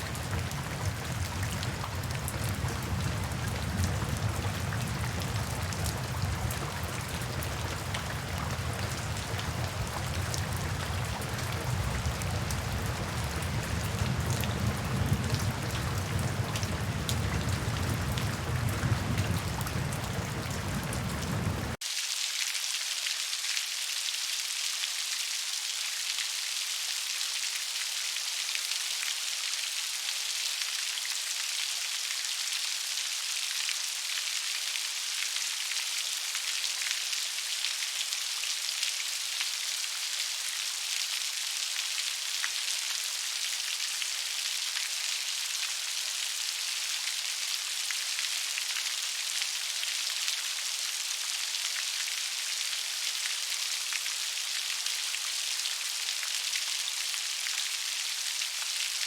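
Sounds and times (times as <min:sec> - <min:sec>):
gentle rain: 0:00.0 - 0:59.0.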